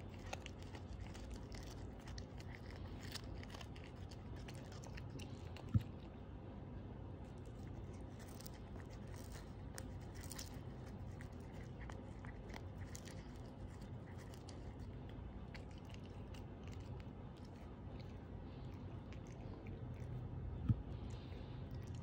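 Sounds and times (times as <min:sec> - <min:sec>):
cat chewing dried fish: 0:00.0 - 0:06.4, 0:07.1 - 0:22.0
crunches of dry fish: 0:00.0 - 0:06.4, 0:07.2 - 0:22.0.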